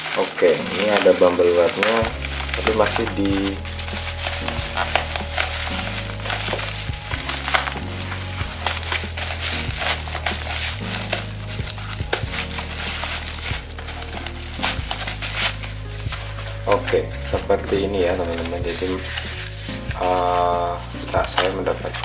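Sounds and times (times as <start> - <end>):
plastic and bubble wrap crinkling: 0.0 - 22.0.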